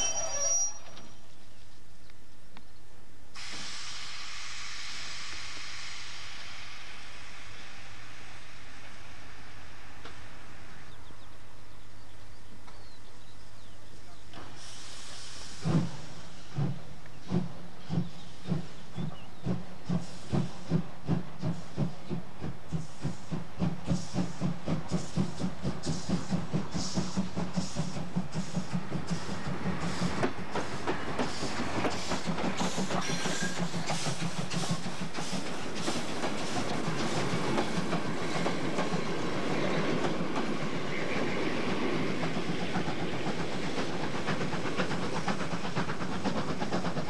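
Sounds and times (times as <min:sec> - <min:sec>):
steam locomotive hissing: 0:03.3 - 0:12.4, 0:13.9 - 0:47.0.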